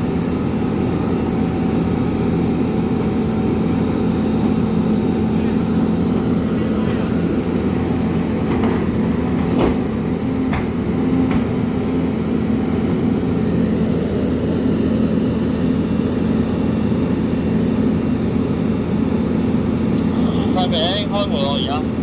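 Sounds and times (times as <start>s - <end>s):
jet turbine whine and drone: 0.0s - 22.0s.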